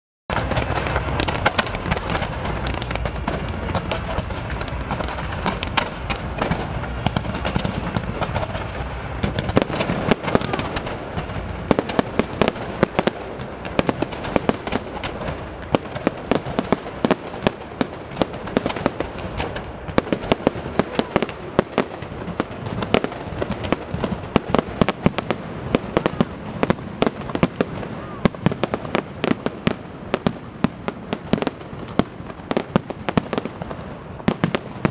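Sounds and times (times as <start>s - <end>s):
fireworks bangs and crackles: 0.3s - 34.9s.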